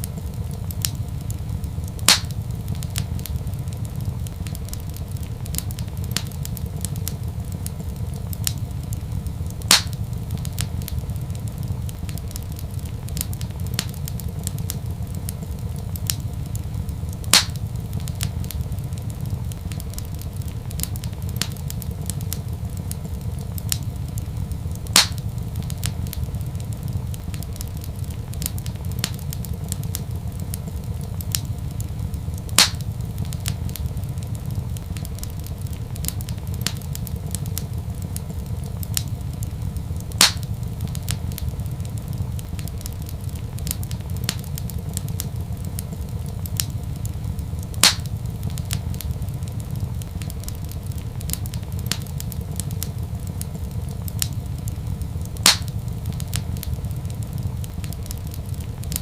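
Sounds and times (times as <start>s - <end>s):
loud fire pops: 0.0s - 59.0s
wood fire crackling: 0.0s - 59.0s.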